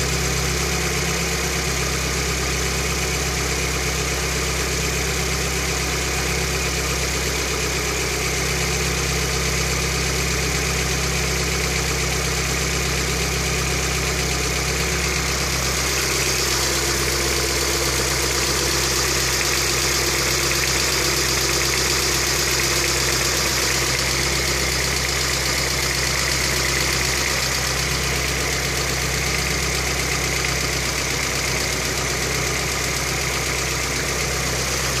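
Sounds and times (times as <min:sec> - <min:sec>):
car engine idling with knock: 0:00.0 - 0:35.0.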